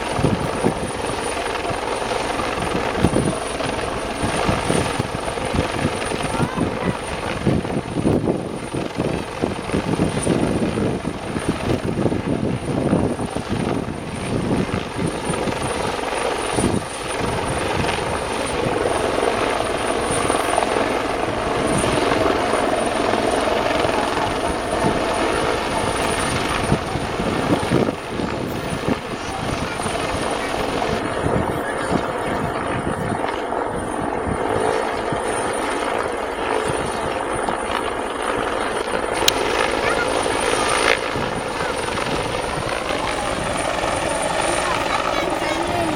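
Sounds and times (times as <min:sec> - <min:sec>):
helicopter rotor beating: 0:00.0 - 0:45.9.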